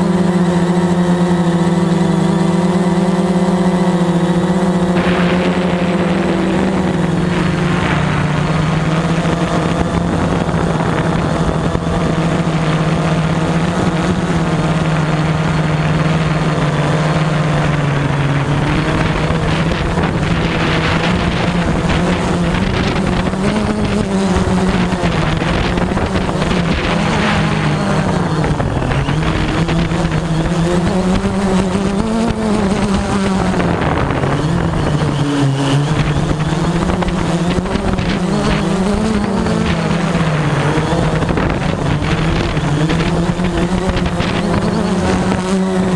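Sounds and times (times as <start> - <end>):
drone propellers buzzing: 0.0 - 45.9
wind noise: 0.0 - 45.9.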